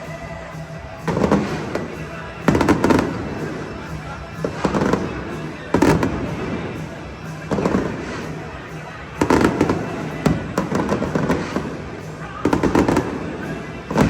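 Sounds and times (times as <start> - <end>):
fireworks bangs: 1.0 - 14.0.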